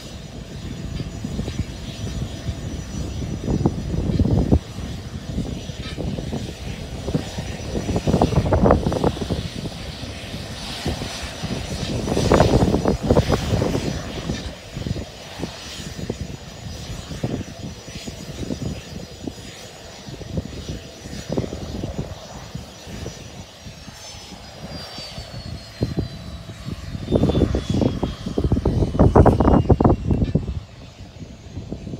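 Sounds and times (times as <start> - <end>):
jet engines whining: 0.0 - 31.9
wind rumble on microphone: 0.0 - 31.9.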